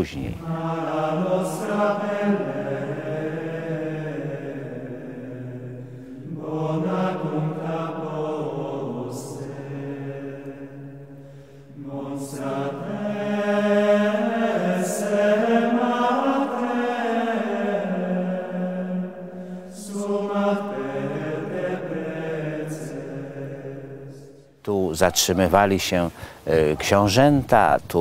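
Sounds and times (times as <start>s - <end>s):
low voices chanting: 0.0s - 28.0s.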